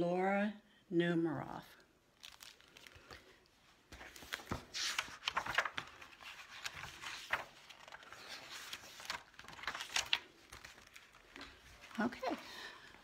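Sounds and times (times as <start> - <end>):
book pages turning and rustling: 2.2 - 13.0.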